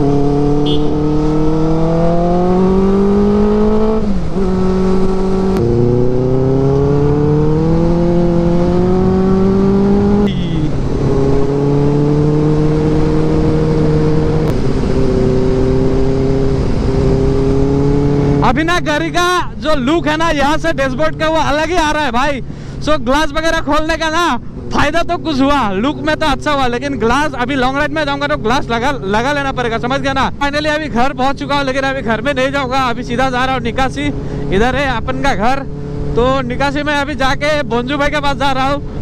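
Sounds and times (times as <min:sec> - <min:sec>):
motorcycle engine accelerating: 0:00.0 - 0:22.0, 0:24.1 - 0:39.0.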